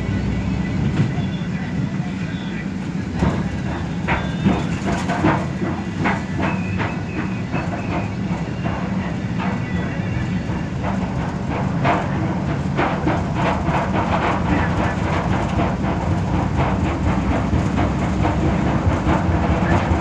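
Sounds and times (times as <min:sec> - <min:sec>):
bus engine and road drone: 0:00.0 - 0:20.0
interior fittings clicking and rattling: 0:03.2 - 0:20.0.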